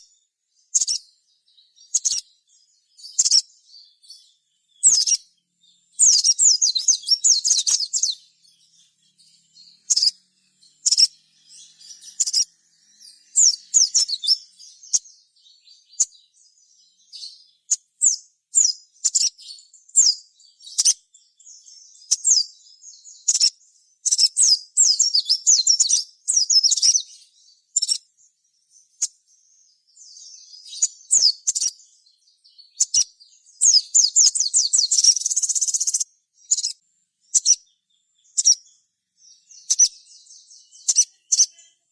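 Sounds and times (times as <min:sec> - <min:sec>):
sunbird chirping and twittering: 0:00.0 - 0:41.9.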